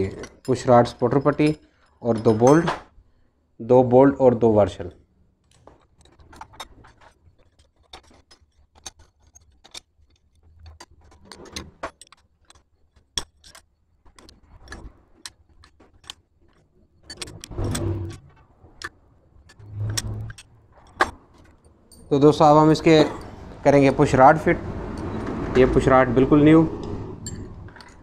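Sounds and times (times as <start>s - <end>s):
metal parts clinking: 0.0s - 3.2s, 4.8s - 28.0s.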